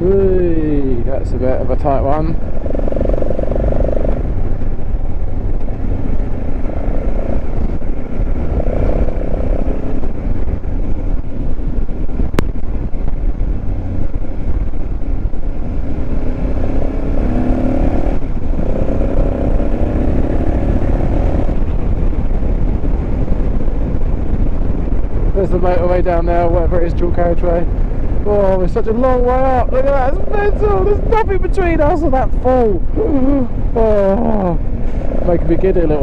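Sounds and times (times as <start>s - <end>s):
wind rumble on microphone: 0.0s - 36.0s
motorcycle engine revving: 1.6s - 25.2s, 26.9s - 36.0s.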